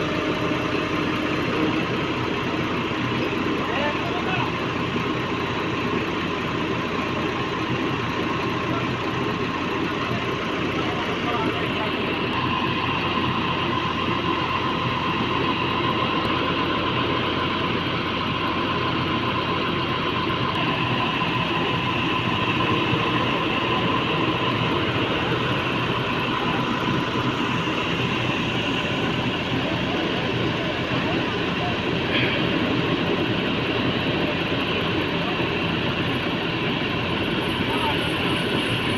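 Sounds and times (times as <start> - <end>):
heavy machinery engine running: 0.0 - 38.9
high-pitched whine: 0.0 - 38.9.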